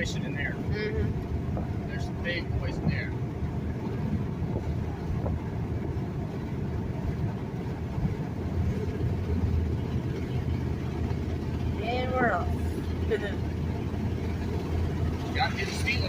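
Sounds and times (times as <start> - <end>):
road noise: 0.0 - 16.0
truck cab engine rumble: 0.0 - 16.0.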